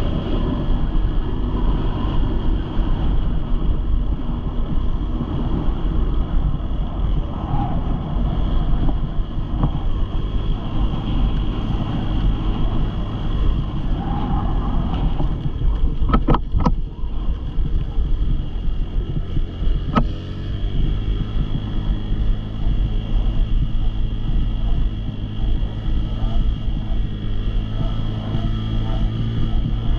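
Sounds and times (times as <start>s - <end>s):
dirt bike engine running: 0.0s - 29.9s
wind buffeting microphone: 0.0s - 29.9s.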